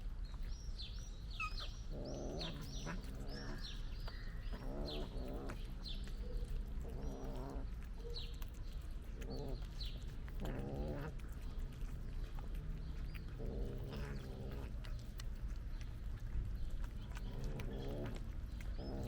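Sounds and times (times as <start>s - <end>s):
cat murmuring while eating: 0.0s - 19.0s
birds chirping: 0.2s - 19.0s.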